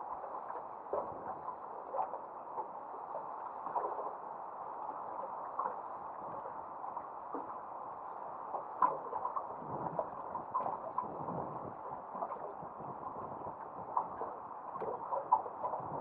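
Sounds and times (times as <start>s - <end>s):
water lapping against boat: 0.1s - 7.6s, 8.3s - 16.0s.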